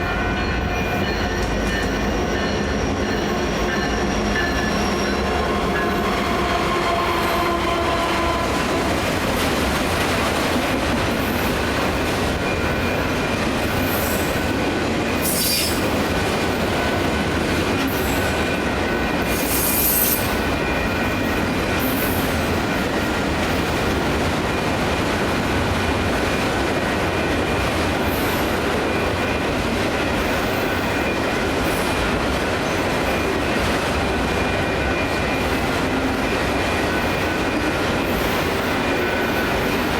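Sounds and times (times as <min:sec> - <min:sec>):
train wheels rumbling and clattering: 0:00.0 - 0:39.9.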